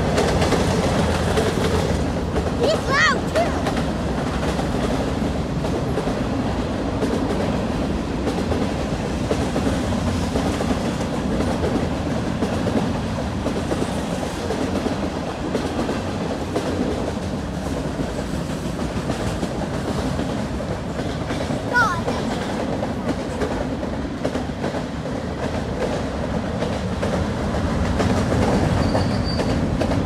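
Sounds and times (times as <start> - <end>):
freight train wheels clattering: 0.0 - 30.0.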